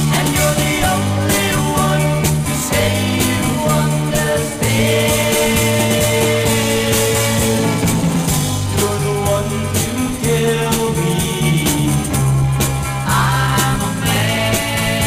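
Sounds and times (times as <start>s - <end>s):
moving bass line: 0.0s - 15.0s
rock band playing: 0.0s - 15.0s.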